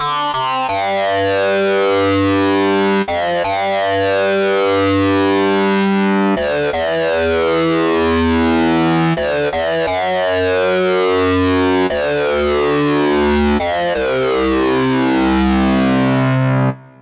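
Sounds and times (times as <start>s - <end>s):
synthesizer notes with falling sweeps: 0.7s - 17.0s.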